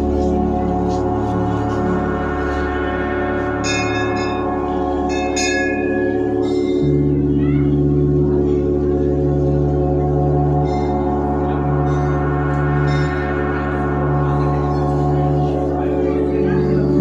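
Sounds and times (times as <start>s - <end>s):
brass bells ringing: 0.0s - 17.0s
many-toned drone: 0.0s - 17.0s.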